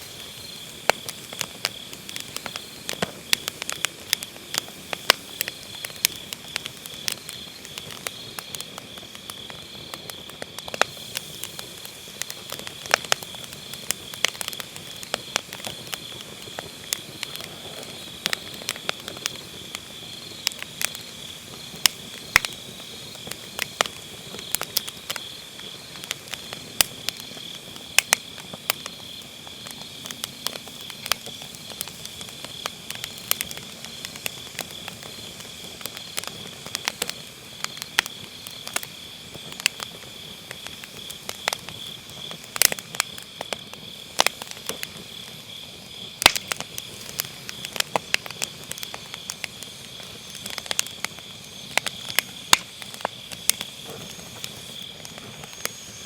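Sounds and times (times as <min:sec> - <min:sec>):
crickets chirping: 0:00.0 - 0:56.0
firewood crackling and popping: 0:00.0 - 0:56.0.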